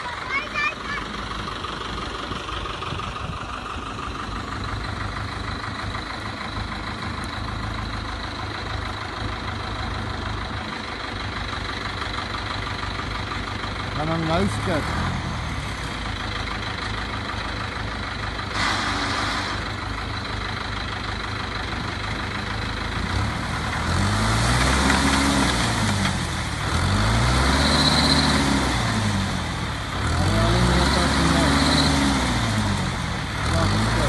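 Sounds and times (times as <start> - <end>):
farm machine engine revving: 0.0 - 34.0.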